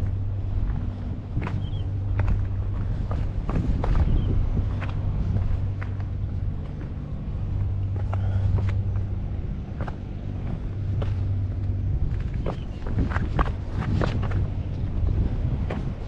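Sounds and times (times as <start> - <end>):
crunching footsteps: 0.0 - 16.0
low engine drone: 0.0 - 16.0.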